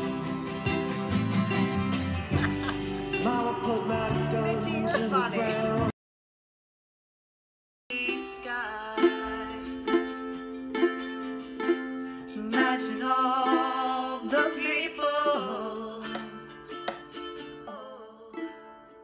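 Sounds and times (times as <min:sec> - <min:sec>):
ukulele chords: 0:00.0 - 0:05.9, 0:07.9 - 0:19.0.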